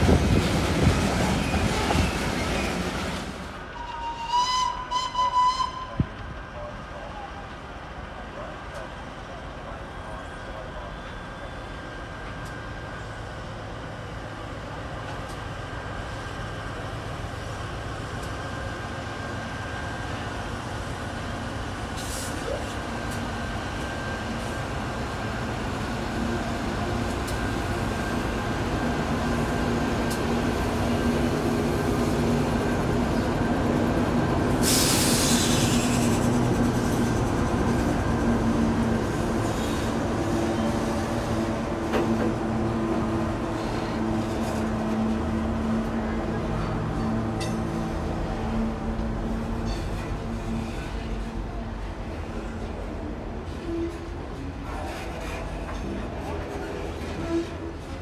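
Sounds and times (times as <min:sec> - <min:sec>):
diesel locomotive engines droning: 0:00.0 - 0:58.0.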